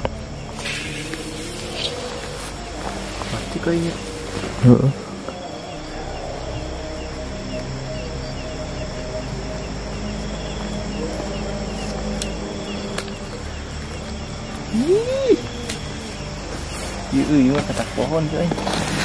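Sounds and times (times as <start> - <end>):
crickets chirping: 0.0 - 19.0
steady background hiss: 0.0 - 19.0.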